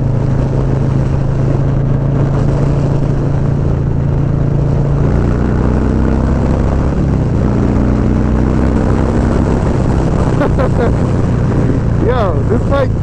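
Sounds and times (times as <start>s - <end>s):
motorcycle engine running hard: 0.0s - 13.0s
wind rush on microphone: 0.0s - 13.0s.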